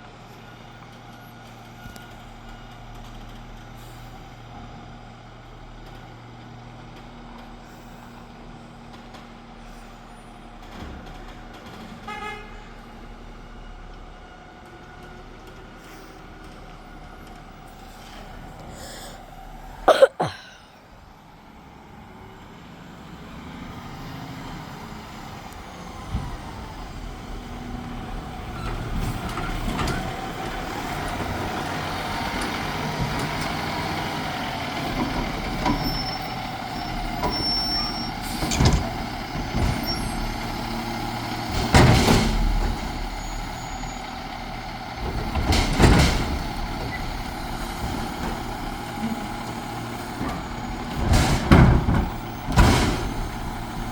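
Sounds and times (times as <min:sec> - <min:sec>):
garbage truck running: 0:00.0 - 0:53.9.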